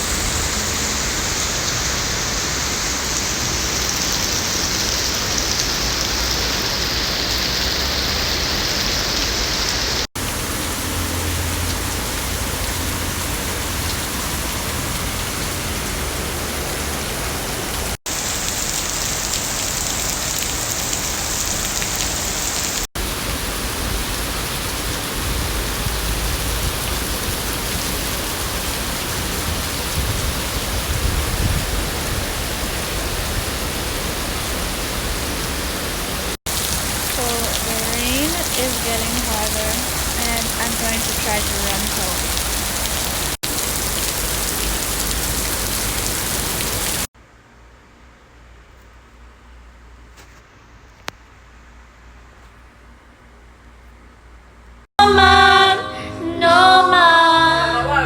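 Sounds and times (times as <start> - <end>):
rain falling steadily: 0.0 - 47.1.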